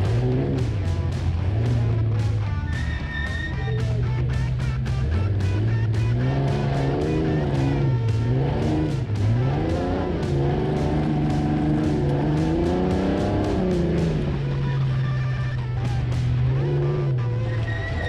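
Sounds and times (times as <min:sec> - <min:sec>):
music with steady beat: 0:00.0 - 0:18.0
race vehicle engine revving: 0:00.0 - 0:18.0.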